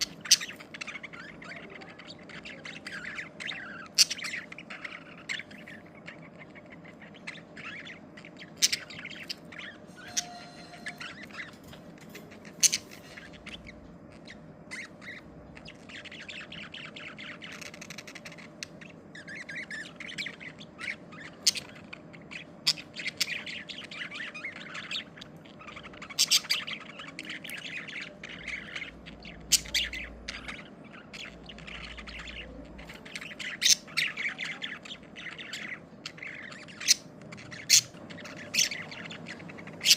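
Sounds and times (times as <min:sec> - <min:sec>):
budgerigars chirping: 0:00.0 - 0:39.9
soft continuous warble: 0:00.0 - 0:39.9.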